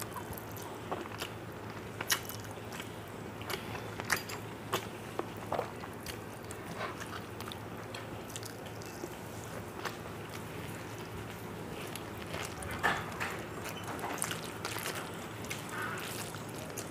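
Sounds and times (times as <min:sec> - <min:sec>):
fingers squishing wet rice: 0:00.0 - 0:16.9
low steady hum: 0:00.0 - 0:16.9
person chewing: 0:00.0 - 0:16.9.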